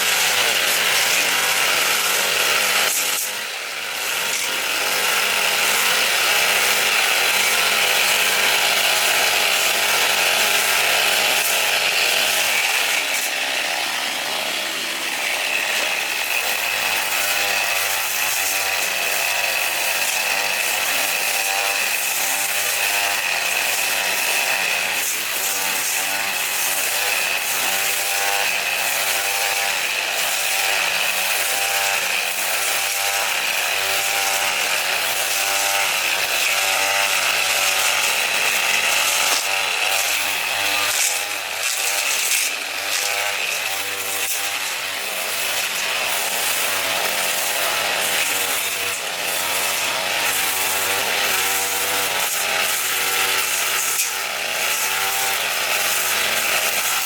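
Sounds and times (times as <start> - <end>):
power tool cutting: 0.0 - 57.0.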